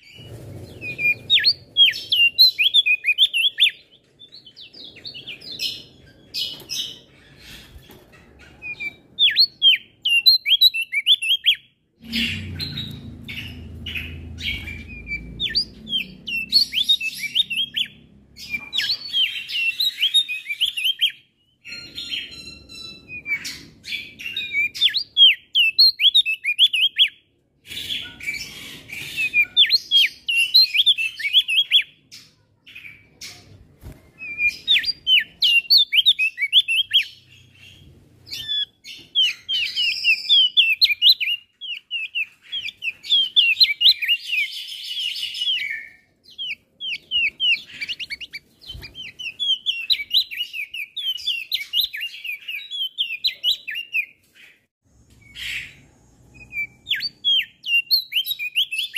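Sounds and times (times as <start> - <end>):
bird chirping and twittering: 0.0 - 58.9.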